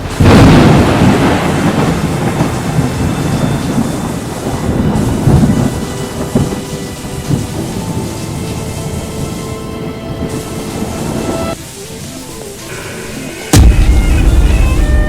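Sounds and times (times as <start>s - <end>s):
thunder rumbling: 0.0s - 11.6s, 13.6s - 15.0s
rain hissing: 0.0s - 15.0s.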